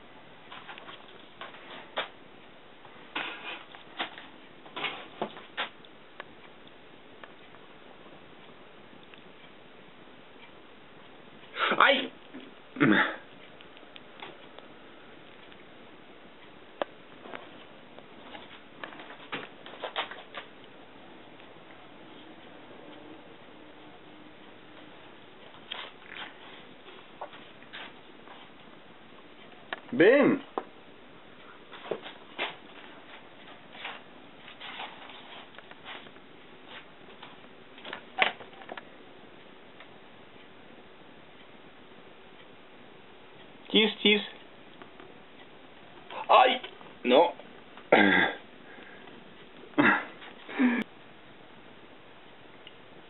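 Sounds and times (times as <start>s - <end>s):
faint room hiss: 0.0s - 53.0s.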